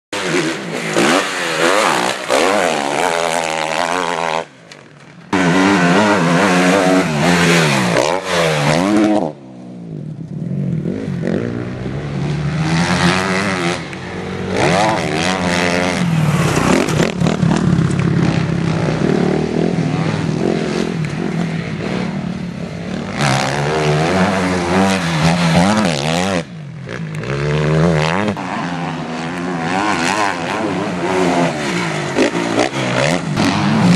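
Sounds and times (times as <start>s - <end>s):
motocross bike engines revving: 0.2s - 33.9s.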